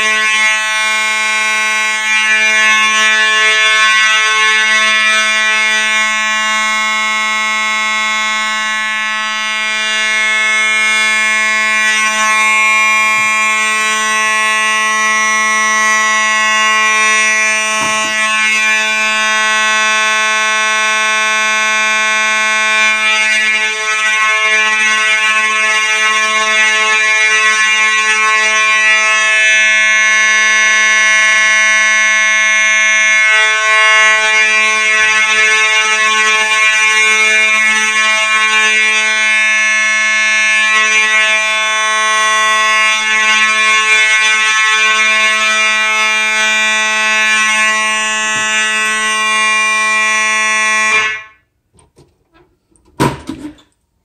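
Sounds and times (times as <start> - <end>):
fire alarm horn tone: 0.0 - 51.7.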